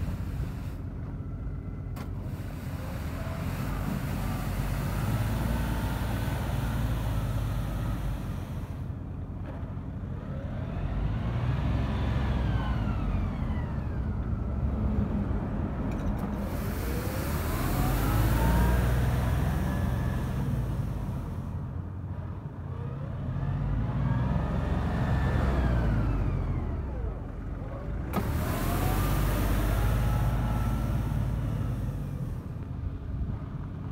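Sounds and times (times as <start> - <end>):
tractor diesel engine running: 0.0 - 11.6, 12.4 - 33.9.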